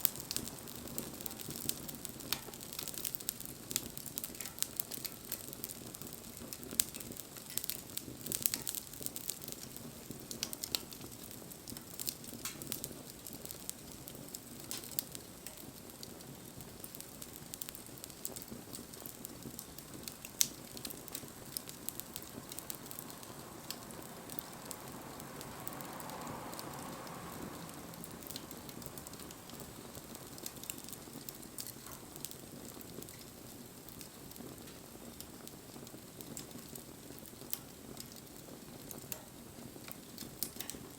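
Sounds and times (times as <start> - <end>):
campfire crackling and popping: 0.0 - 40.9
low rush of flame: 0.0 - 40.9
soft hiss: 0.0 - 40.9.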